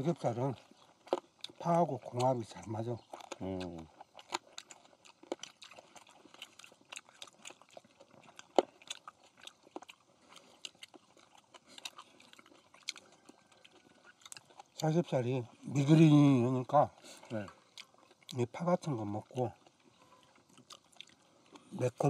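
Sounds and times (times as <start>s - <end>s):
chewing and crunching: 0.0s - 22.0s.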